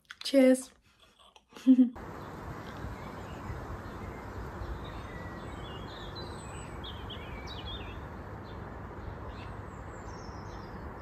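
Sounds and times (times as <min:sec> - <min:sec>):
small birds chirping: 0:02.0 - 0:11.0.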